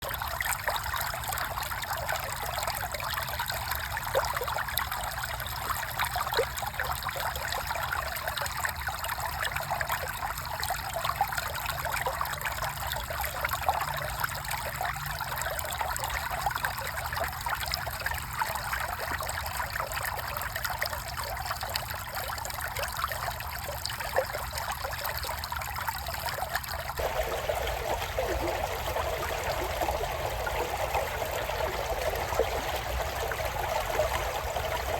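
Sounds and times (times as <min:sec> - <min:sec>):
creek water babbling: 0:00.0 - 0:34.9.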